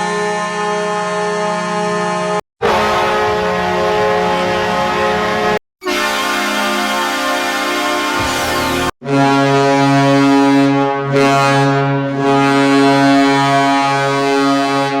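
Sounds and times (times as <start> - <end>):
goal horn blast: 1.8 - 15.0.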